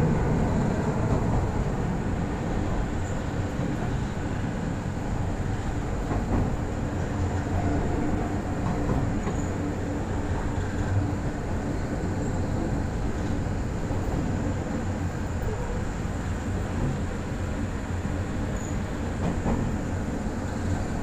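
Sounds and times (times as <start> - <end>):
diesel railcar engine drone: 0.0 - 21.0
train rolling noise: 0.0 - 21.0.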